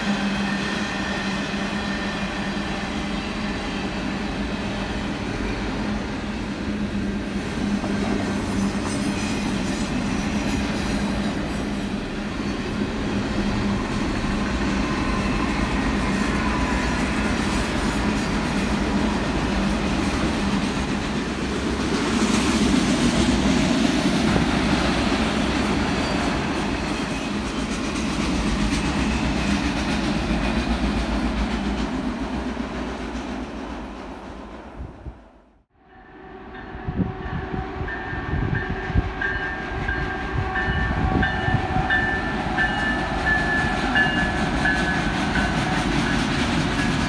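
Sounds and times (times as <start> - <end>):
train wheels rumbling on rail: 0.0 - 35.7, 36.3 - 47.0.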